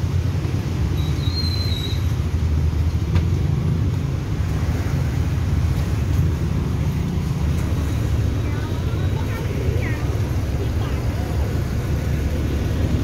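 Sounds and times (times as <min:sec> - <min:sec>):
bus passing: 0:00.0 - 0:13.0
road traffic rumble: 0:00.0 - 0:13.0
motorcycles passing: 0:02.0 - 0:13.0.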